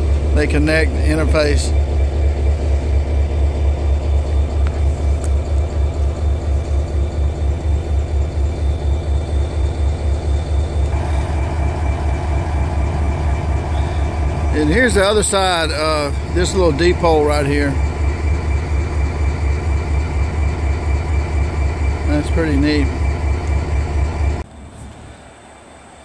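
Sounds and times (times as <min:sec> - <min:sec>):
diesel locomotive idling: 0:00.0 - 0:26.0.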